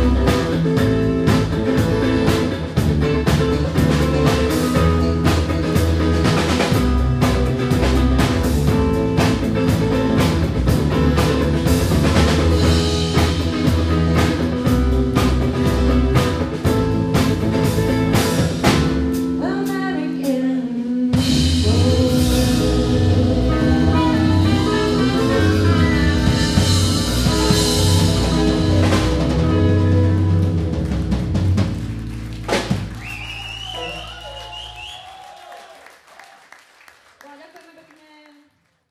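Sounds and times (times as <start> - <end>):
live band music: 0.0 - 35.2.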